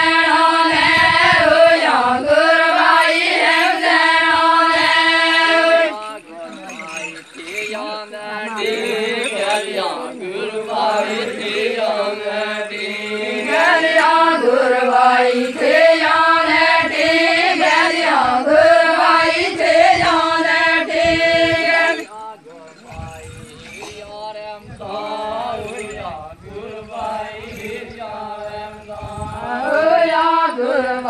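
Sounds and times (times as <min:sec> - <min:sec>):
women singing together: 0:00.0 - 0:31.0.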